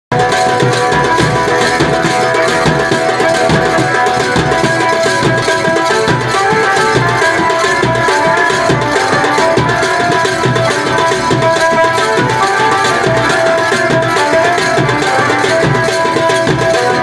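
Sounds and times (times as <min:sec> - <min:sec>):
hand drum beating: 0:00.1 - 0:17.0
sustained melody line: 0:00.1 - 0:17.0.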